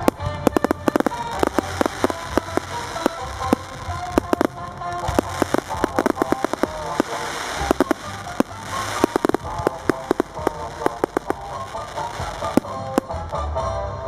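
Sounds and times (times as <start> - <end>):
fireworks bangs and crackles: 0.0 - 13.6
music playing: 0.0 - 14.0.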